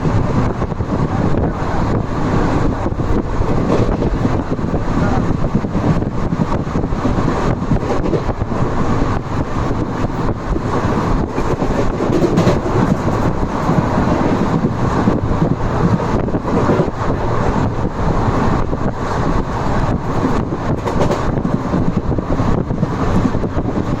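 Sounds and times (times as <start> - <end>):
train rumbling and rattling: 0.0 - 24.0.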